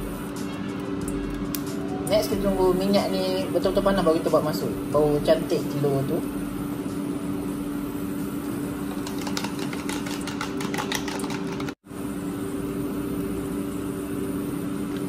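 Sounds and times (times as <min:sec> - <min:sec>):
kitchen appliance electric hum: 0:00.0 - 0:15.0.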